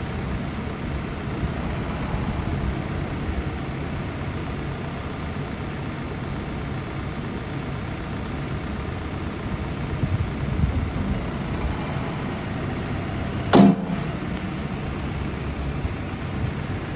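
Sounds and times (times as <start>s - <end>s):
backhoe diesel engine running: 0.0s - 16.9s.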